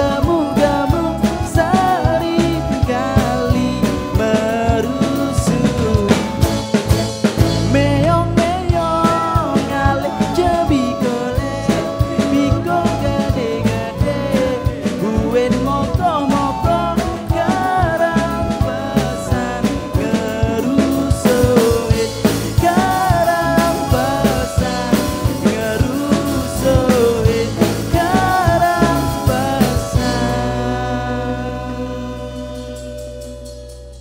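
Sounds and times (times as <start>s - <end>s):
drum kit steady beat: 0.0s - 34.0s
melodic lead line bending pitch: 0.0s - 34.0s.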